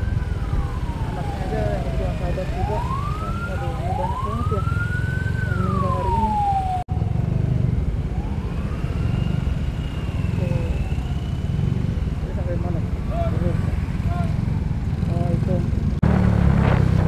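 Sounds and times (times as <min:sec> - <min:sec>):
emergency siren wailing: 0:00.0 - 0:15.2
motorcycle riding noise: 0:00.0 - 0:17.0
wind rumble: 0:00.0 - 0:17.0.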